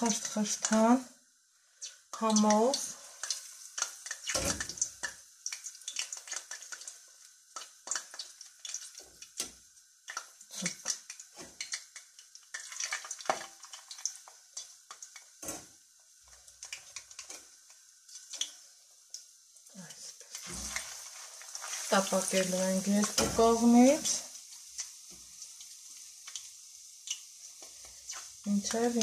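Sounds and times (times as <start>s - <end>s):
fish frying in hot oil: 0.0s - 29.0s.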